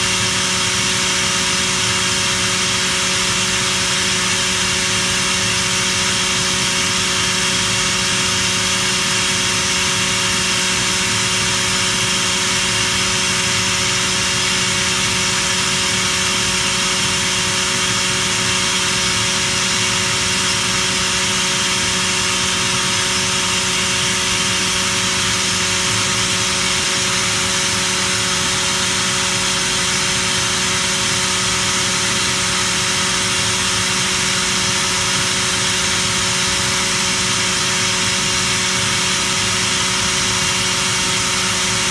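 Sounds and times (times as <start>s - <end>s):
air compressor hum: 0.0s - 41.9s.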